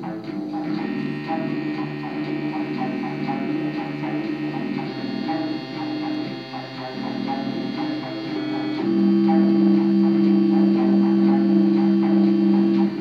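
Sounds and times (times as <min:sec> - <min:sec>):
ticking beat: 0:00.0 - 0:13.0
low synth sequence: 0:00.6 - 0:13.0
sustained synth chord: 0:00.6 - 0:13.0.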